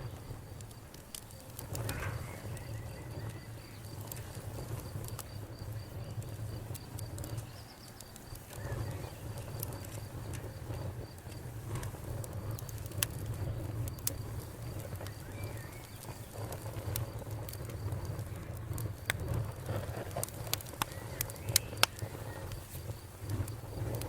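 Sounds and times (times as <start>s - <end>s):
fire crackling and popping: 0.0s - 24.0s
low rush of flame: 0.0s - 24.0s.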